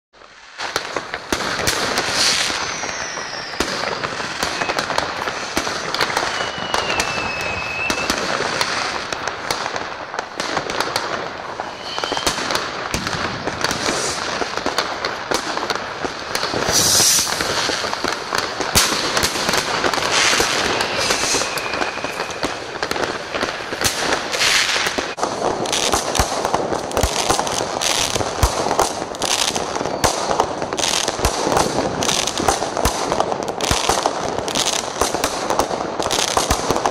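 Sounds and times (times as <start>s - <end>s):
fireworks bangs and crackling: 0.2s - 36.9s
firework whistles: 0.4s - 9.6s, 10.3s - 33.0s.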